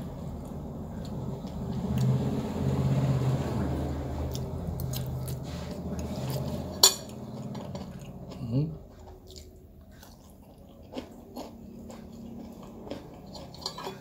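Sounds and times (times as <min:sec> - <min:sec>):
man chewing: 0:00.0 - 0:14.0.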